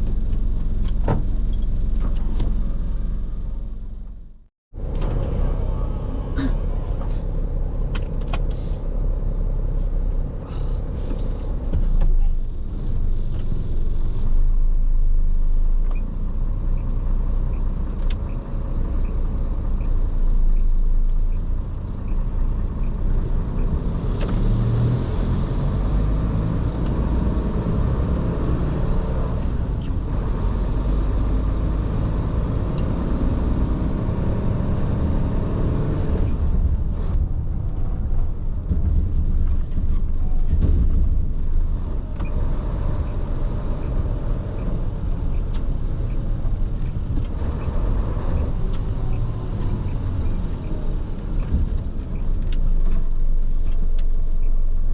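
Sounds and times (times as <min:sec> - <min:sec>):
truck engine and road noise: 0:00.0 - 0:54.9.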